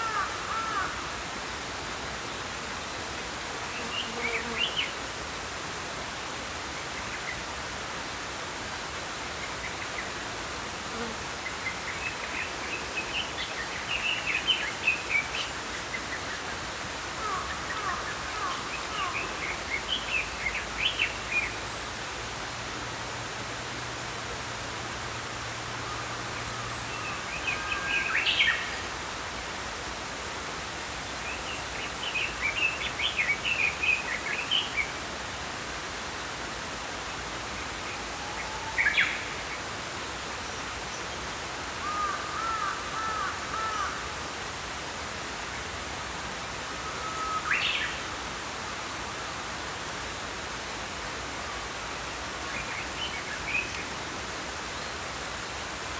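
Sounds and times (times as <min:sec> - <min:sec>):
stream flowing: 0:04.9 - 0:55.9.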